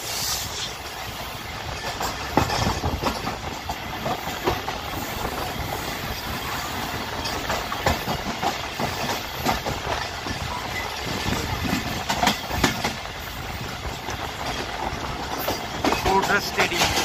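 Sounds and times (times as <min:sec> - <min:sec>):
train rumbling on track: 0:00.0 - 0:17.0
wheels knocking and clattering: 0:01.7 - 0:17.0.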